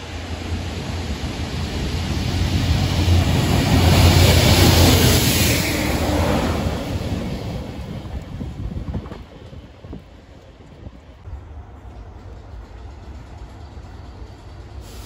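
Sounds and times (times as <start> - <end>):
train passing with rumble: 0.0 - 15.0.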